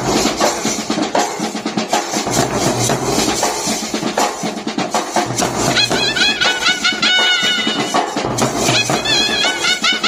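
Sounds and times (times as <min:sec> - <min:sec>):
bass drums beating: 0:00.0 - 0:01.2, 0:02.2 - 0:04.4, 0:05.2 - 0:10.0
snare drum: 0:00.0 - 0:10.0.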